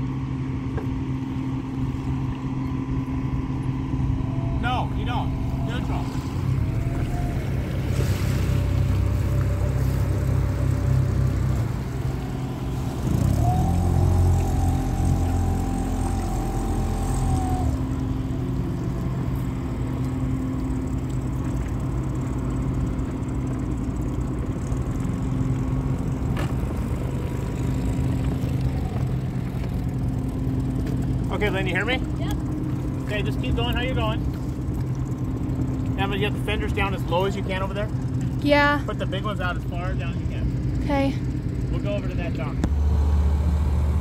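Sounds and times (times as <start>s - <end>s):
boat engines running: 0.0s - 44.0s.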